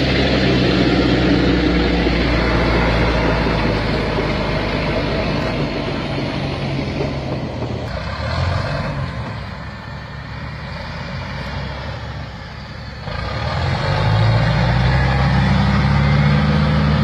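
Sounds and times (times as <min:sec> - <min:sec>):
heavy diesel engine revving: 0:00.0 - 0:17.0.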